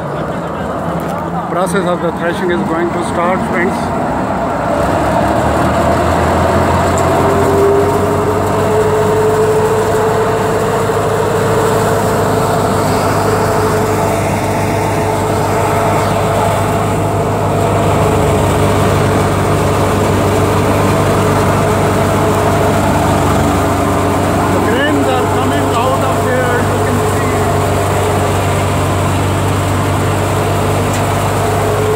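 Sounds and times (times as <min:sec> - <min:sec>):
thresher mechanical drone: 0:00.0 - 0:31.9.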